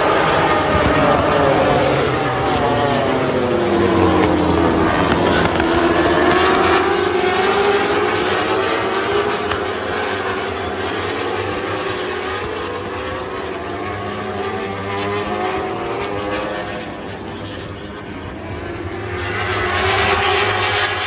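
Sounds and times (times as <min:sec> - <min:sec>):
motorbike engines at high revs: 0:00.6 - 0:21.0.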